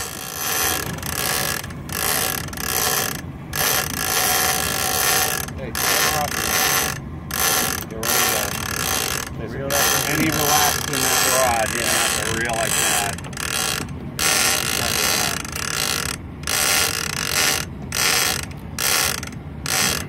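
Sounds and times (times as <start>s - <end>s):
fishing reel drag screaming: 0.0s - 20.0s.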